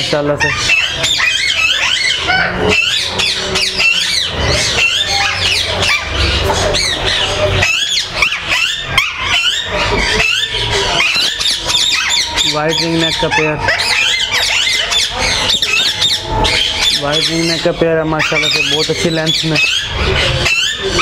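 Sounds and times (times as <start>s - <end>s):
parakeets squawking and screeching: 0.0s - 21.0s.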